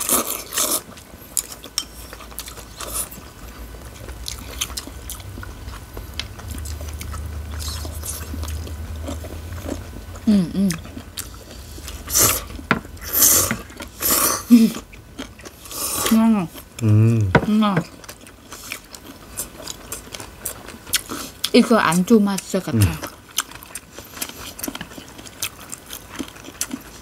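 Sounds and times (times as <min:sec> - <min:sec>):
noodles slurped and chewed: 0:00.0 - 0:16.9, 0:17.9 - 0:27.0.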